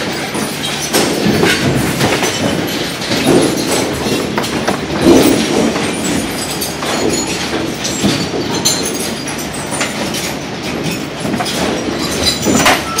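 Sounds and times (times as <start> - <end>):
conveyor machinery rattling: 0.0 - 13.0.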